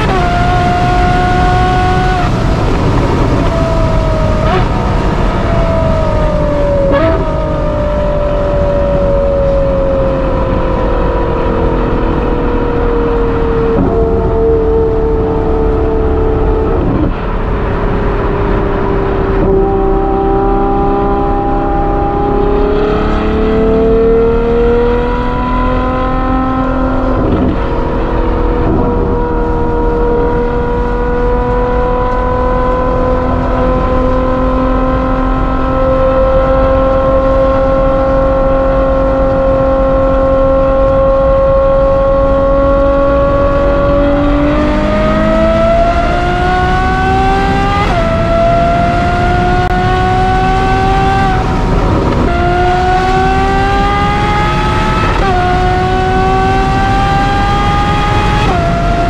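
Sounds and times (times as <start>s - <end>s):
car engine at speed: 0.0s - 59.0s
road and wind noise: 0.0s - 59.0s.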